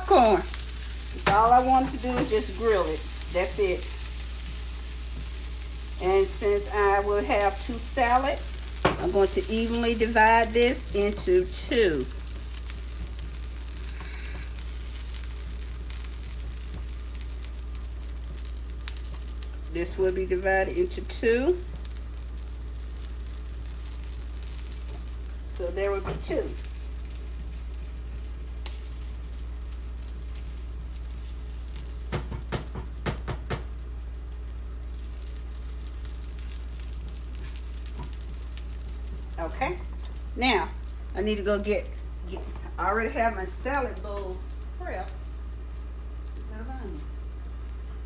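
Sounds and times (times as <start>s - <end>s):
small crackling pops: 0.0s - 19.8s, 21.4s - 41.2s, 41.8s - 42.8s, 43.8s - 48.0s
corn sizzling in a pan: 0.0s - 48.0s
steady low hum: 0.0s - 48.0s.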